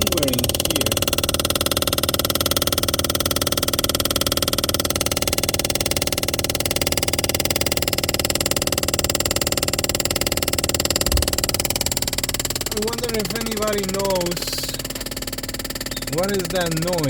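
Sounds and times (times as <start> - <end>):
dashboard buzzing rattle: 0.0 - 17.0.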